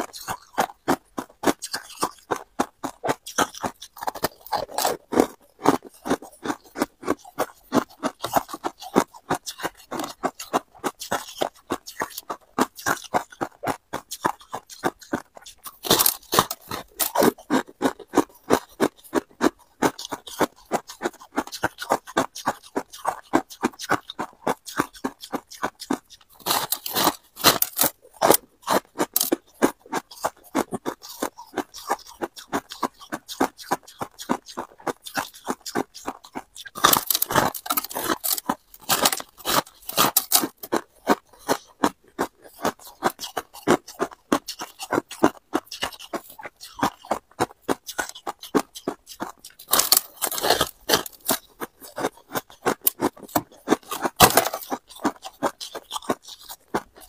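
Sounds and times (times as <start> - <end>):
frost crunching while chewed: 0.0 - 57.0.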